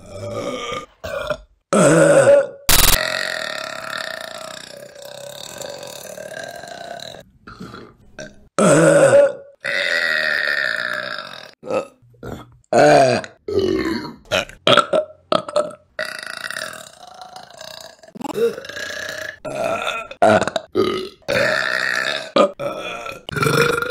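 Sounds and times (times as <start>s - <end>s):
woman burping: 0.0s - 6.9s, 8.2s - 16.9s, 17.6s - 23.9s.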